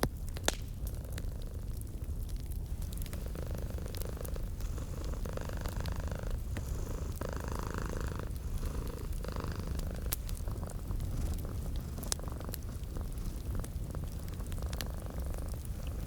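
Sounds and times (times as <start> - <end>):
wood fire crackling: 0.0 - 16.0
cat purring: 0.8 - 16.0.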